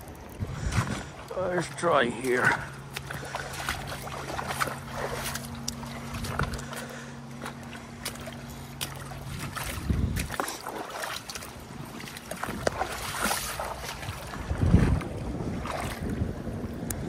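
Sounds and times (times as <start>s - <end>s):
river water running and splashing: 0.0s - 16.5s
steady low hum: 0.0s - 17.0s.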